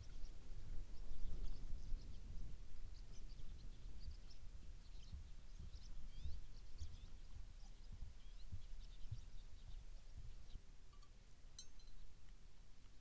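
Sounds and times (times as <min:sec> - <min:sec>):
small birds chirping: 0:00.0 - 0:12.4.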